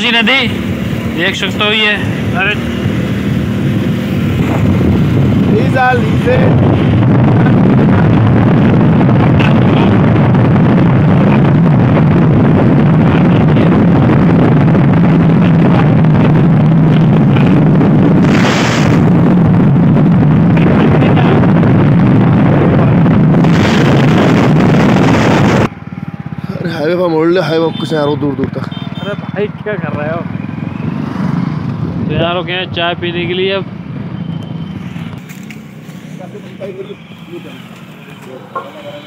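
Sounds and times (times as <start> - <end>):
wind rushing over microphone: 0.0 - 27.1, 29.8 - 37.2
motorcycle engine cruising: 0.0 - 39.0.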